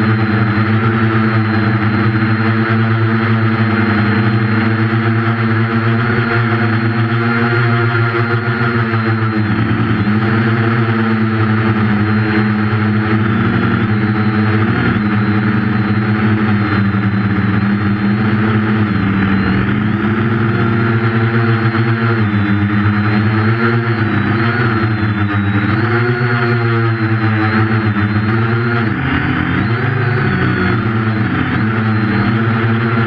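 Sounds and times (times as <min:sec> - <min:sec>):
drone motors buzzing: 0:00.0 - 0:33.0.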